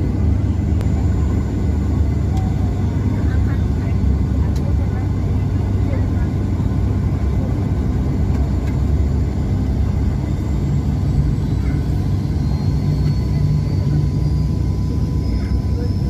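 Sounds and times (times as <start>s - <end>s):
airplane low rumble: 0.0s - 16.0s.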